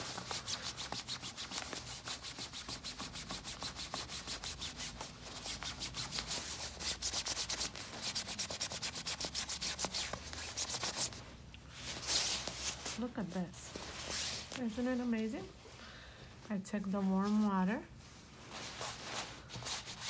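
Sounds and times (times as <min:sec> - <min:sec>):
rag scrubbing nylon jacket: 0:00.0 - 0:15.0, 0:18.4 - 0:20.0.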